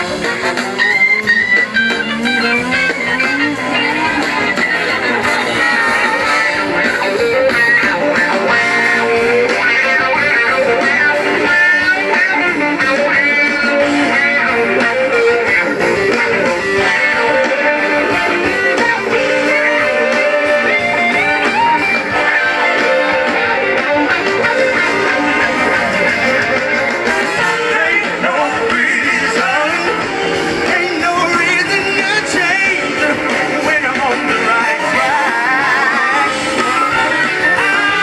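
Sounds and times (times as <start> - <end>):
band music: 0.0 - 38.0
electric guitar with sliding notes: 0.0 - 38.0.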